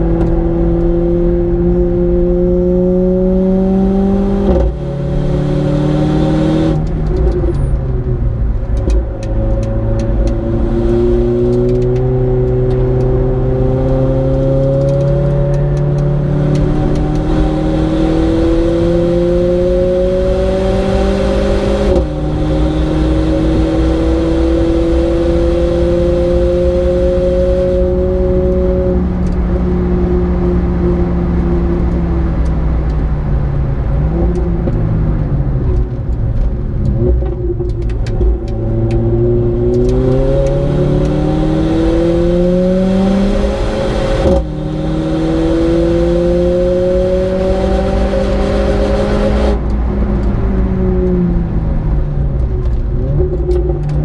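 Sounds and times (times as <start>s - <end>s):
car engine revving in cabin: 0.0s - 54.0s.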